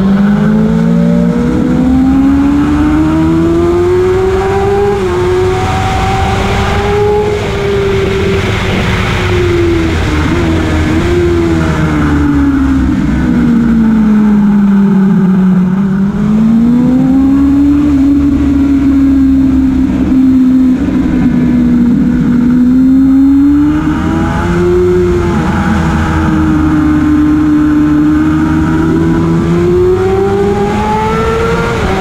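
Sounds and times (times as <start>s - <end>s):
motorcycle engine: 0.0s - 32.0s
wind rush: 0.0s - 32.0s.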